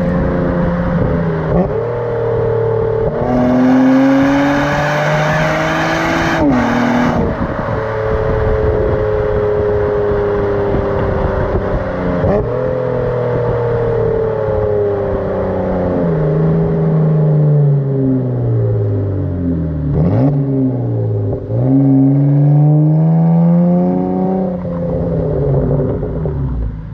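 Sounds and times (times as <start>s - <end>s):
car engine driving: 0.0s - 26.9s.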